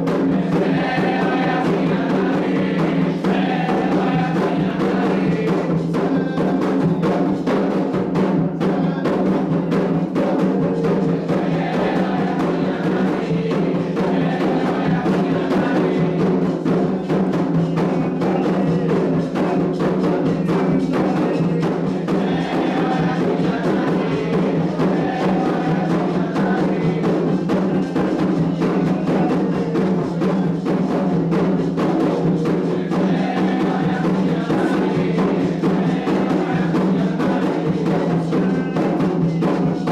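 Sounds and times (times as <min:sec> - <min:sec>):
hand drums playing: 0:00.0 - 0:39.9.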